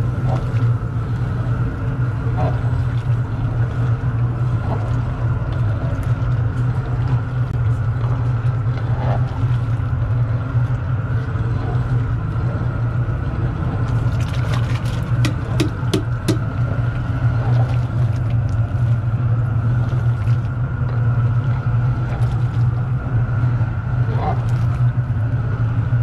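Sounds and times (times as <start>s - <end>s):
propane burner roaring: 0.0s - 26.0s.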